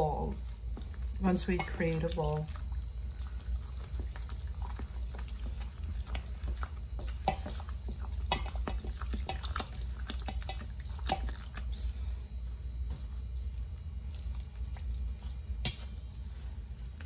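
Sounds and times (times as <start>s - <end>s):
liquid trickling: 0.0s - 11.7s, 13.7s - 17.0s
low steady hum: 0.0s - 17.0s
wooden spoon stirring sticky dough: 0.0s - 17.0s.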